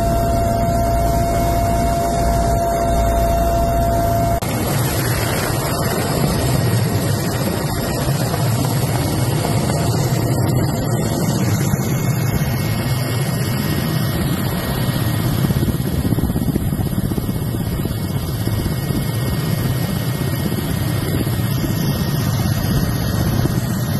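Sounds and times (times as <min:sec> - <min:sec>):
helicopter rotor and engine drone: 0:00.0 - 0:23.9.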